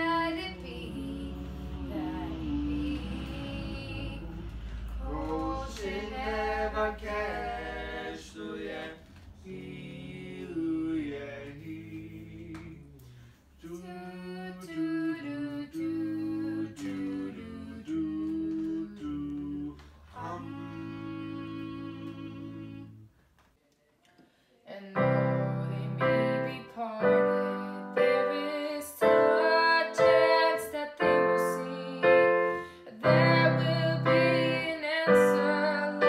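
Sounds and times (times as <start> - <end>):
people singing a cappella in harmony: 0.0 - 13.0, 13.6 - 23.1, 25.0 - 36.0.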